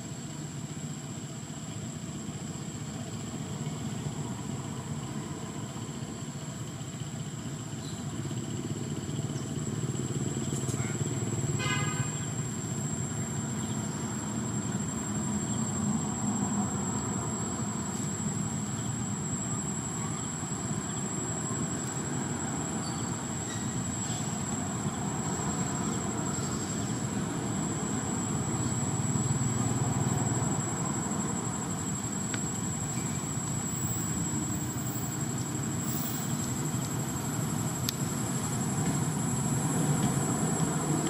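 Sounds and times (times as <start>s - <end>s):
high thin insect drone: 0.0s - 41.0s
outdoor background rumble: 0.0s - 41.0s.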